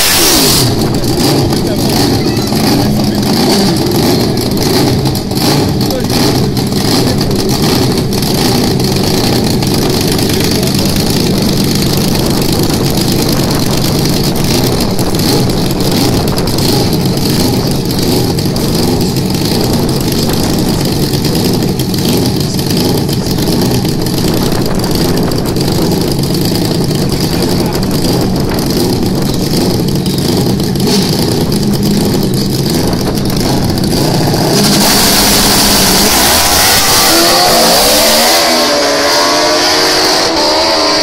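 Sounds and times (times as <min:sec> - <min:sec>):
motorcycle engines idling loudly: 0:00.0 - 0:37.2.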